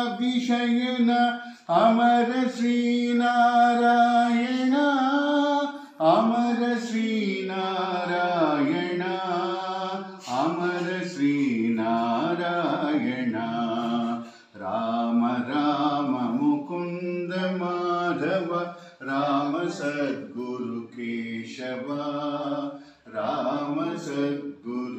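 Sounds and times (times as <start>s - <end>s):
man chanting: 0.0s - 24.9s.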